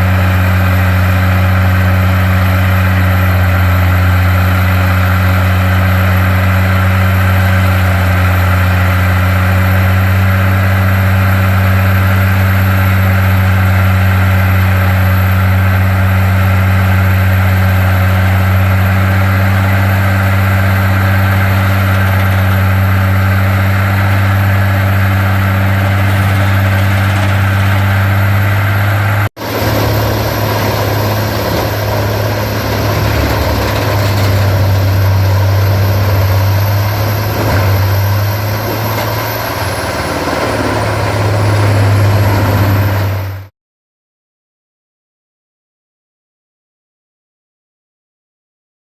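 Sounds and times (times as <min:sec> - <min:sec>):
grinder diesel engine drone: 0:00.0 - 0:43.5.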